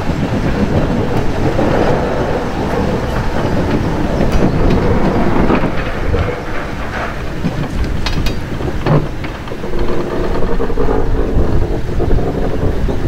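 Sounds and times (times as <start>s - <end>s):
diesel locomotive engine: 0.0s - 13.0s
wheels and couplings clanking: 0.0s - 13.0s.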